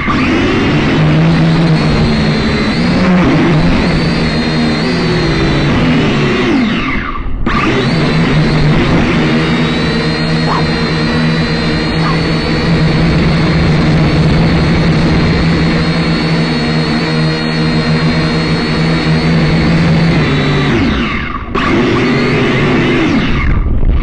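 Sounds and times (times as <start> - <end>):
drone propellers whirring: 0.0 - 24.0.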